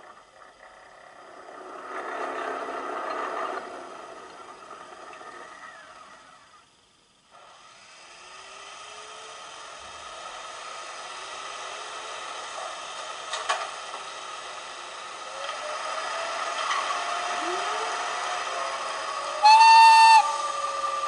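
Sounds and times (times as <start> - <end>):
slow rising whines: 0.0 - 11.0, 14.4 - 21.0
electric locomotive hum: 0.0 - 21.0.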